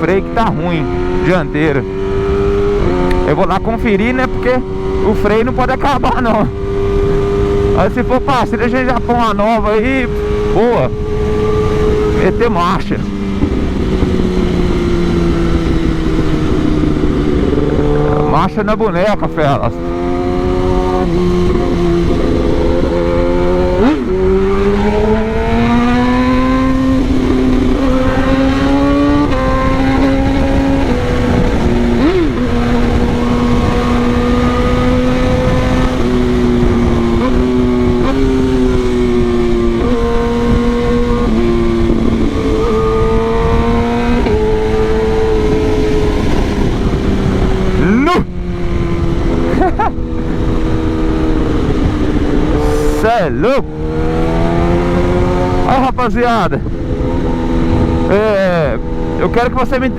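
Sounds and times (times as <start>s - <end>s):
motorcycle engine accelerating: 0.0s - 59.9s
wind noise: 0.0s - 59.9s.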